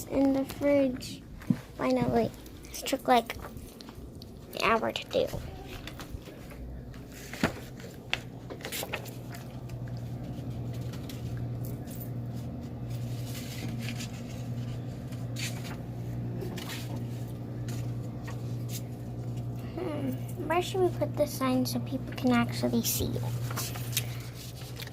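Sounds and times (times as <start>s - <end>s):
refrigerator hum: 0.0s - 24.9s.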